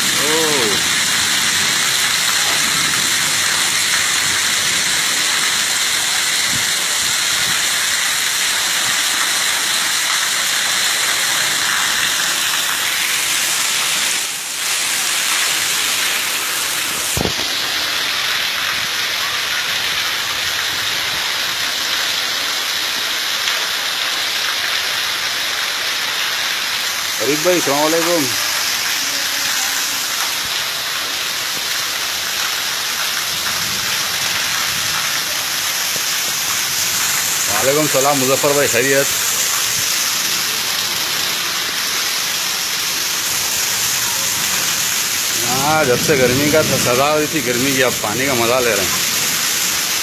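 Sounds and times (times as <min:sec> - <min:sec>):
heavy rain: 0:00.0 - 0:50.0.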